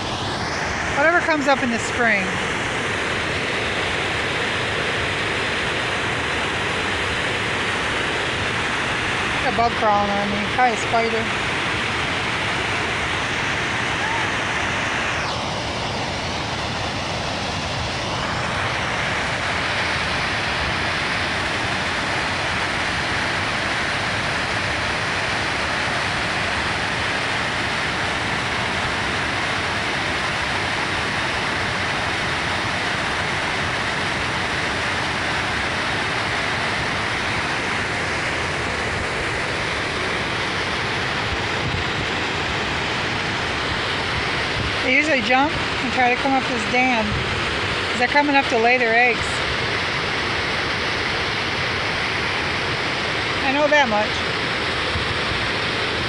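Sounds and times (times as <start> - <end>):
water rushing over dam: 0.0 - 56.0.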